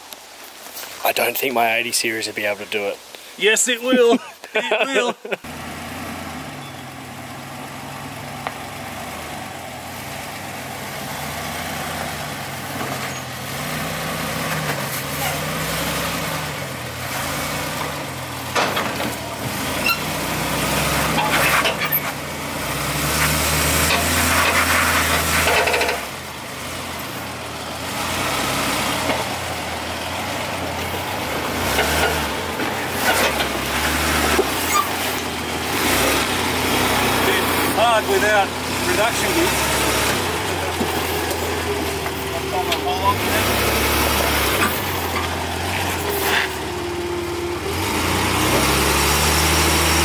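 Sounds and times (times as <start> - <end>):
vehicle engine at low speed: 5.4 - 50.0.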